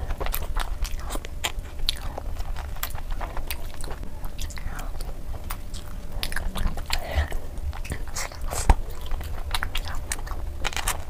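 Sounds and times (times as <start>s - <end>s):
wet chewing mouth sounds: 0.0s - 11.0s.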